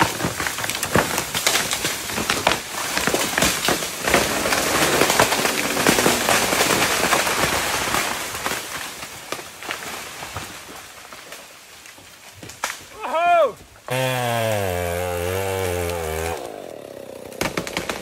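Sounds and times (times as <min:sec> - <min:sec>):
branches snapping: 0:00.0 - 0:13.2, 0:13.8 - 0:18.0
wood cracking: 0:00.0 - 0:18.0.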